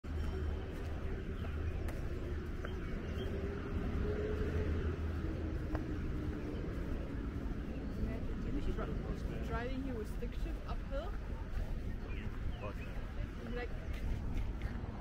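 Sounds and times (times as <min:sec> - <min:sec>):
low rumble of traffic: 0:00.0 - 0:15.0
faint drifting hum: 0:00.1 - 0:15.0.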